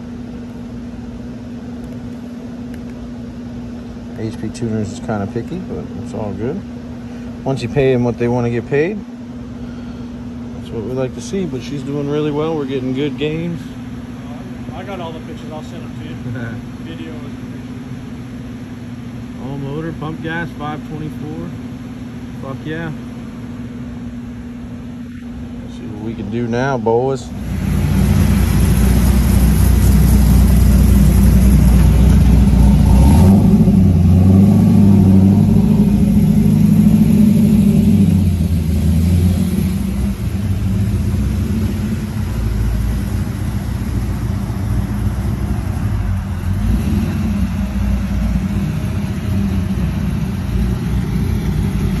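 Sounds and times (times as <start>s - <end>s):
car engine rumbling: 0.0s - 52.0s.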